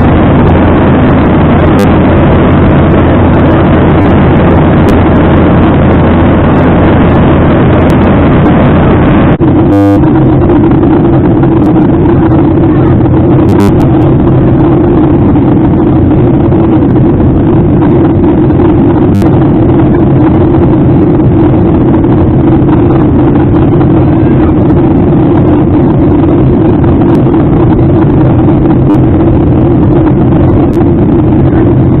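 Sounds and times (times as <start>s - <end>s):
airliner cabin engine rumble: 0.0s - 32.0s.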